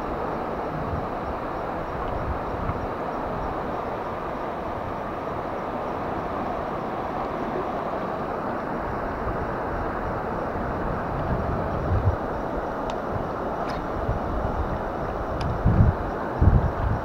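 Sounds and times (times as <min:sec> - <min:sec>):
river water rushing past rocks: 0:00.0 - 0:17.0.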